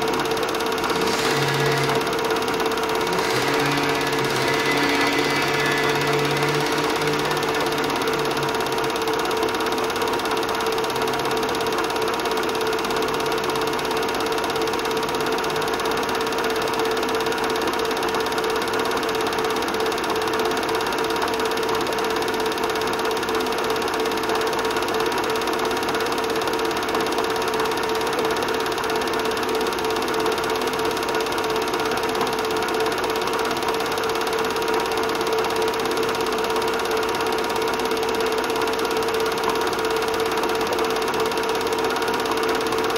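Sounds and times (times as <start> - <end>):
film projector whirring: 0.0 - 42.9.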